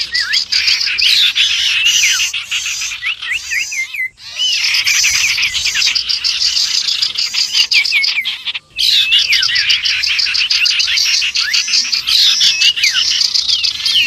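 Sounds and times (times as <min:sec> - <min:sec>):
birds chirping and chattering: 0:00.0 - 0:14.0
swooping whistled bird notes: 0:00.0 - 0:14.0.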